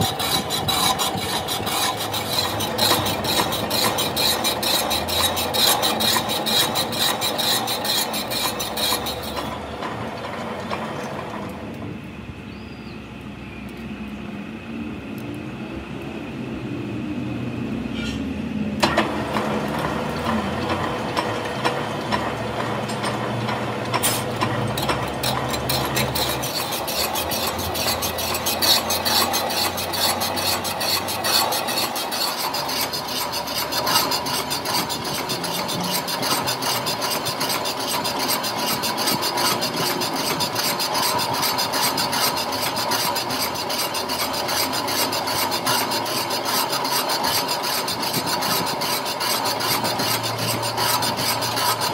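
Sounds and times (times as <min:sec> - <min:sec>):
boring bar cutting metal: 0:00.0 - 0:11.6, 0:18.8 - 0:51.9
low motor hum: 0:00.0 - 0:51.9.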